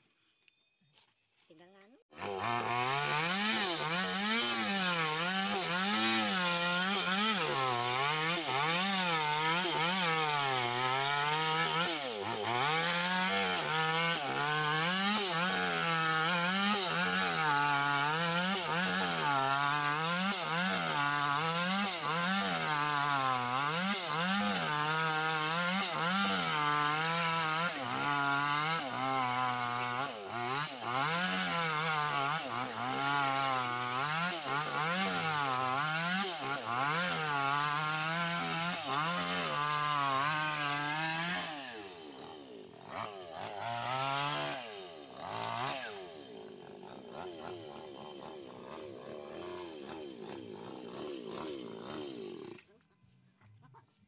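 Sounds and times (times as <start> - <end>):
chainsaw cutting through log: 2.0 - 52.8.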